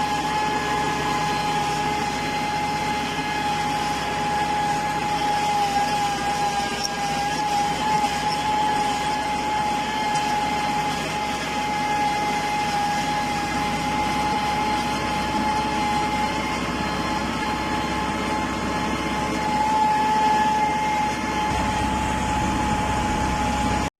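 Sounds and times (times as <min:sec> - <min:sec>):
steady high whine: 0:00.0 - 0:23.9
tractor engine under load: 0:00.0 - 0:23.9.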